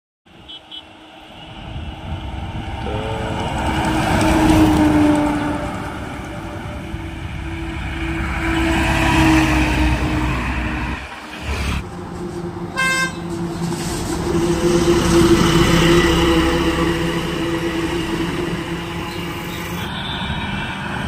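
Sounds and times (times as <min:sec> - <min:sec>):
heavy lorry passing: 0:00.3 - 0:21.0
small truck passing: 0:00.9 - 0:21.0.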